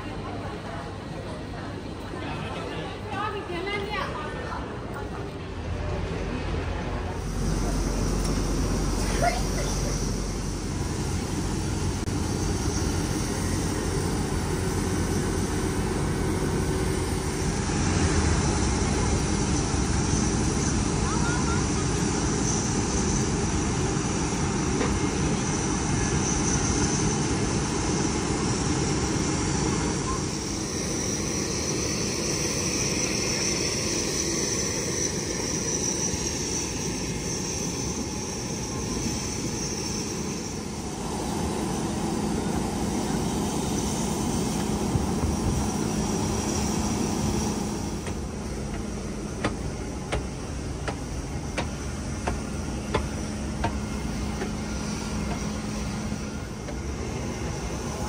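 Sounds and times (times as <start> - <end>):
airliner cabin rumble and air hiss: 0.0 - 58.0.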